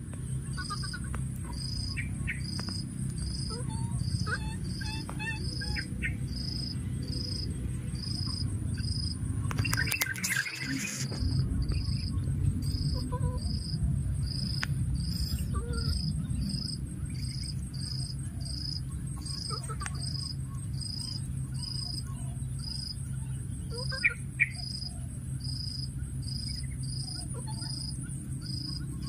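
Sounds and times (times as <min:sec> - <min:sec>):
low rumble: 0:00.0 - 0:23.6
insect chirping: 0:00.0 - 0:29.0.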